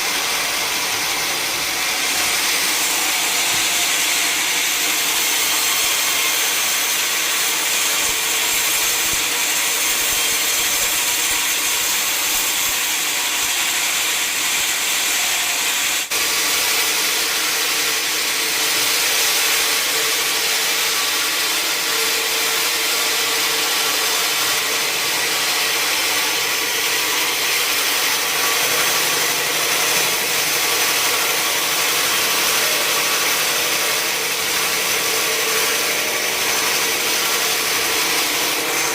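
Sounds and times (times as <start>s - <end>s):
saw cutting through log: 0.0s - 38.9s.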